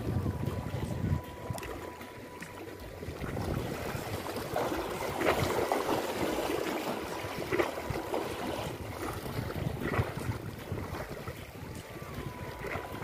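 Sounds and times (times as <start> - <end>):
waves lapping against rocks: 0.0 - 13.0.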